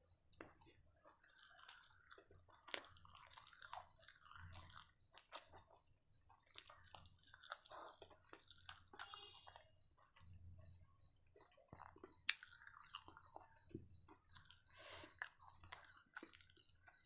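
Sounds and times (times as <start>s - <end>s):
person chewing with crunches: 0.4s - 9.6s, 11.4s - 17.0s.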